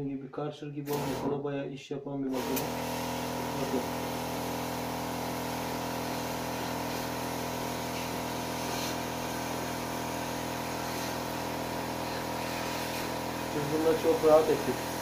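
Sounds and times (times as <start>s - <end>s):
spray pump humming: 0.9s - 1.3s, 2.3s - 15.0s.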